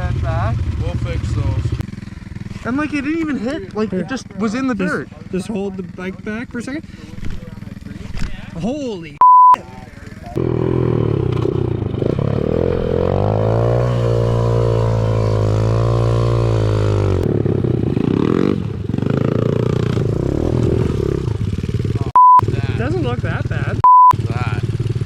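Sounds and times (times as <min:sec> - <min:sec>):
pit bike engine revving: 0:00.0 - 0:08.2, 0:10.1 - 0:25.0.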